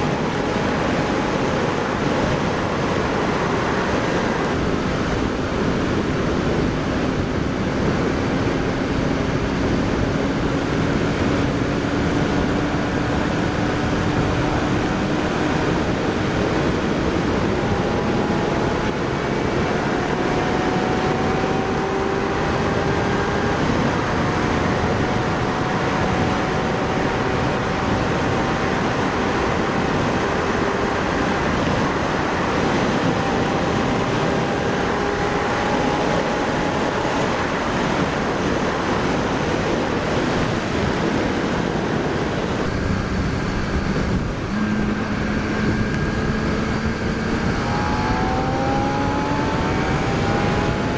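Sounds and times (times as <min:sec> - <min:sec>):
faint motorcycle engine: 0:00.0 - 0:50.9
wind rushing over microphone: 0:00.0 - 0:50.9.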